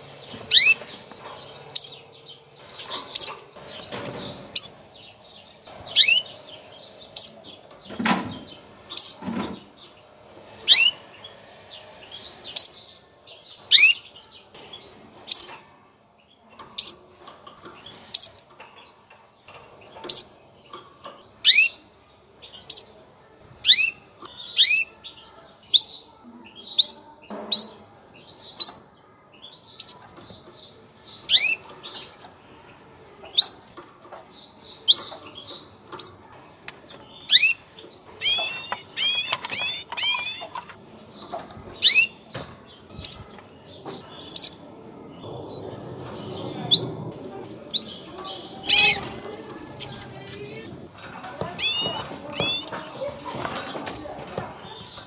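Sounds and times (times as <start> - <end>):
canary chirping: 0.0 - 55.0.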